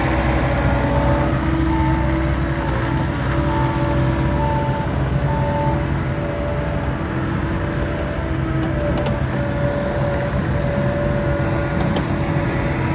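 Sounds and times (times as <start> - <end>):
diesel engine running: 0.0 - 12.9
thin whining tone: 0.0 - 12.9.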